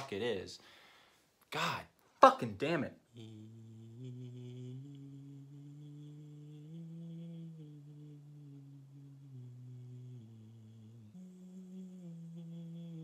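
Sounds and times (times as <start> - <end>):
man singing vocal warm-up scale: 1.4 - 13.0.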